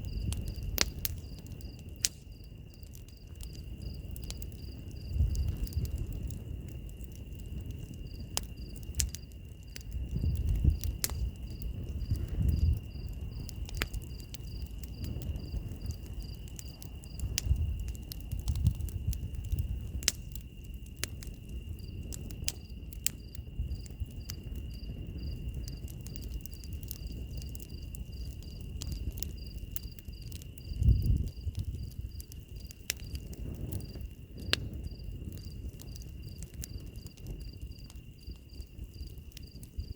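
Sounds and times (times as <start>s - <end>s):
cricket chirping: 0.0s - 39.9s
insects trilling: 0.0s - 39.9s
low rushing of flame: 0.0s - 39.9s
wood fire crackling and popping: 0.0s - 39.9s.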